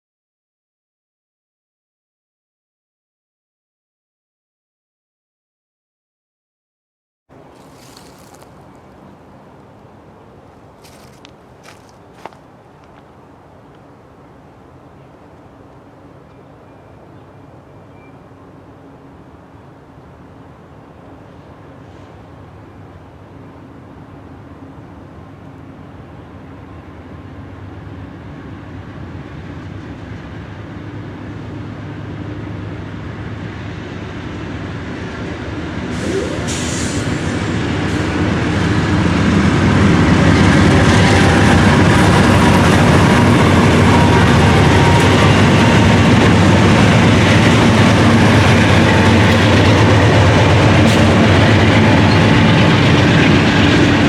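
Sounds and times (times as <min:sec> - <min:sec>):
freight train passing: 0:07.3 - 0:54.0
wheels rumbling and rail clatter: 0:07.3 - 0:54.0.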